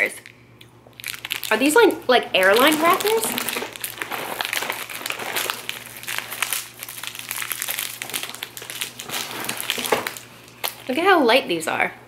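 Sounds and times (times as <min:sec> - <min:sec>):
plastic wrapper crinkling: 0:00.9 - 0:11.1.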